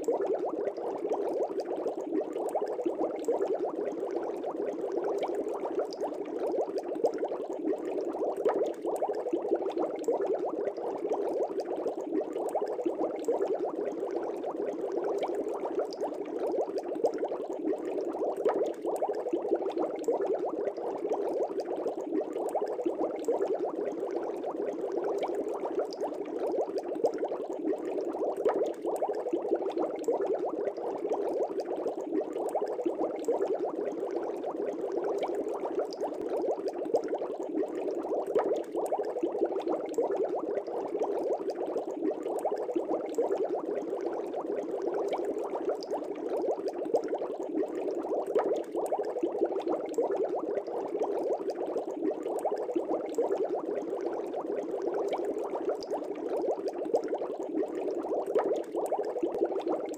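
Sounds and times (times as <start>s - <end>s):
aquarium air bubbles bubbling: 0.0s - 59.9s
small bubble pops: 0.0s - 59.9s.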